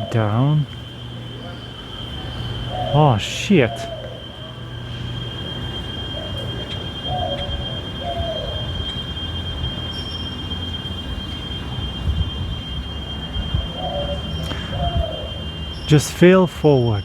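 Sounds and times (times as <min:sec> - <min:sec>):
faint chirp-like sounds: 0:00.0 - 0:17.0
high-pitched whine: 0:00.0 - 0:17.0.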